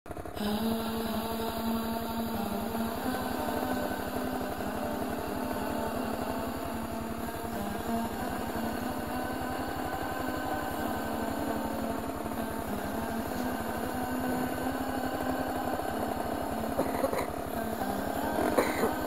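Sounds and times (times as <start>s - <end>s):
small vehicle engine idling: 0.1s - 19.0s.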